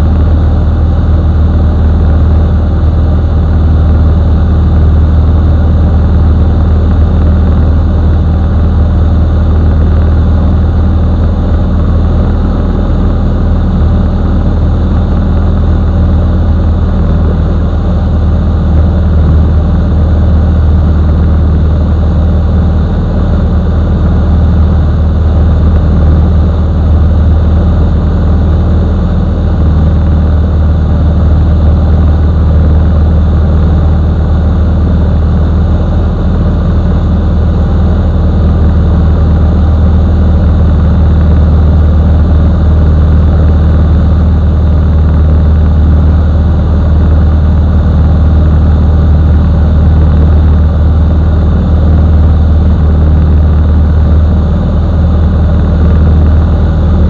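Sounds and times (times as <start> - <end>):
propeller engine drone: 0.0 - 57.0.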